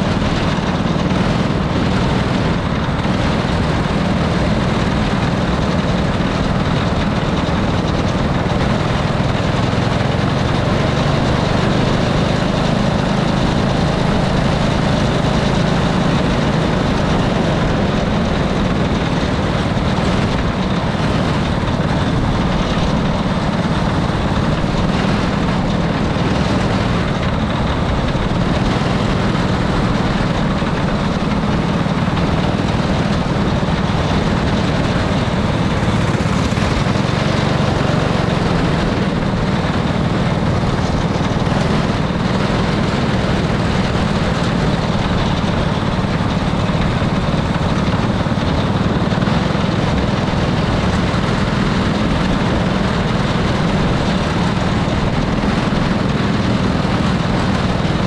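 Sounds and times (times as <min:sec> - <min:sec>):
go-kart engine droning: 0:00.0 - 0:58.0.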